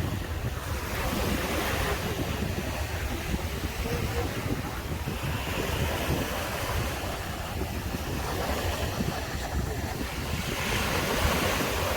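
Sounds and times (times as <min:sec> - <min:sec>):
sea waves breaking on sand: 0:00.0 - 0:11.9
wind buffeting microphone: 0:00.0 - 0:11.9.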